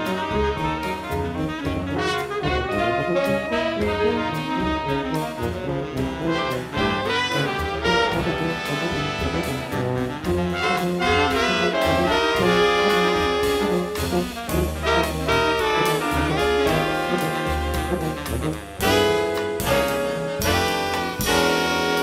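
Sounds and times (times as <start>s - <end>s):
jazz orchestra playing: 0.0s - 22.0s
trombone: 0.0s - 22.0s.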